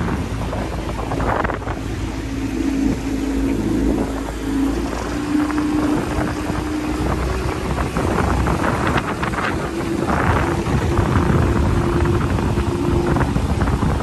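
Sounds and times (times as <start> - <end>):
outboard motor running: 0.0 - 14.0
wind buffeting microphone: 0.0 - 14.0.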